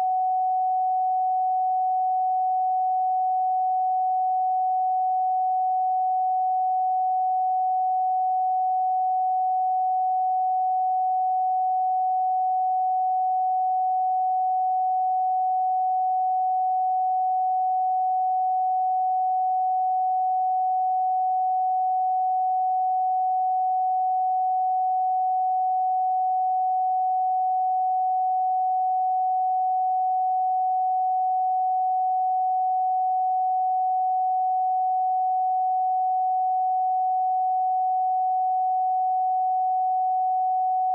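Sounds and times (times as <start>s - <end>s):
steady sine tone: 0.0s - 40.9s.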